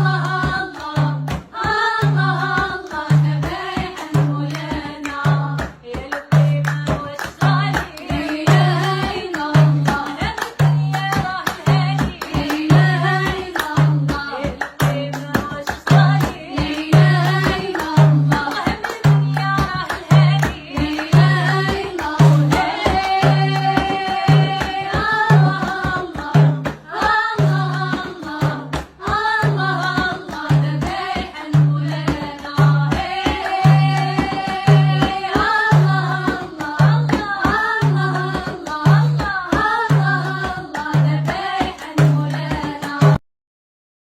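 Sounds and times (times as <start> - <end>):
steady drum beat: 0.0 - 43.2.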